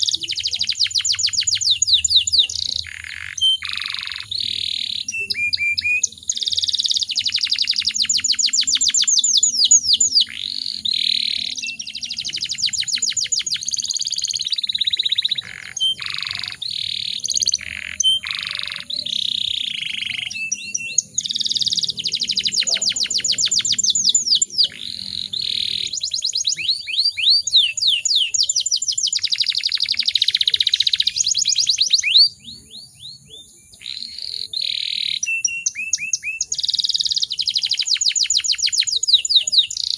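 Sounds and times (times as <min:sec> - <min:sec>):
canary singing with trills: 0:00.0 - 0:39.9.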